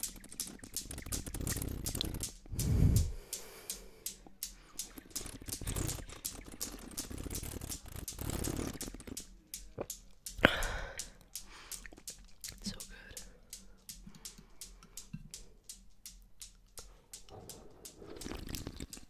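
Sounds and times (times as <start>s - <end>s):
wet mouth clicks and lip smacks: 0.0s - 19.0s.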